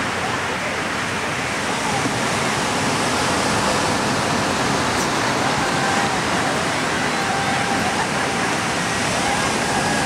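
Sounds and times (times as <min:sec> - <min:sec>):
faint voices calling: 0:00.0 - 0:10.0
ocean surf: 0:00.0 - 0:10.0
water splashing: 0:00.0 - 0:10.0.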